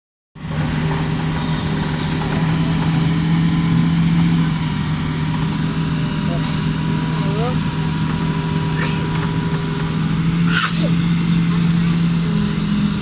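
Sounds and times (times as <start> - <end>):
excavator diesel engine running: 0.4 - 13.0.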